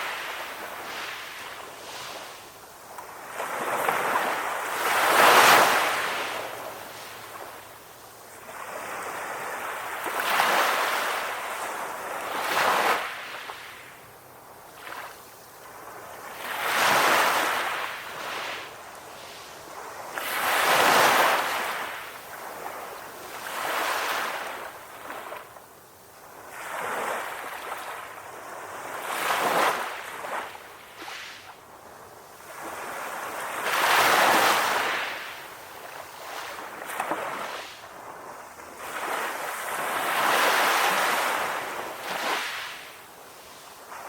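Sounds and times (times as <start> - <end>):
ocean waves breaking on shore: 0.0 - 44.0.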